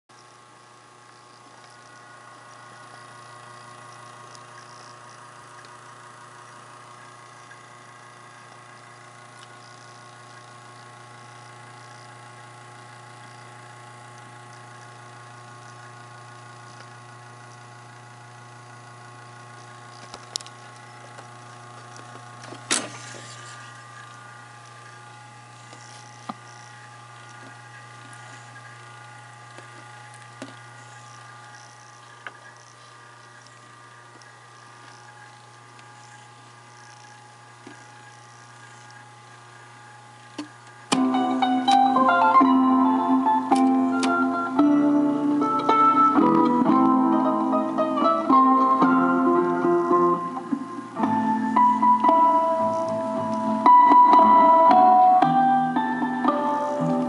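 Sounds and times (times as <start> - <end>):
tape deck humming: 0.1 - 57.0.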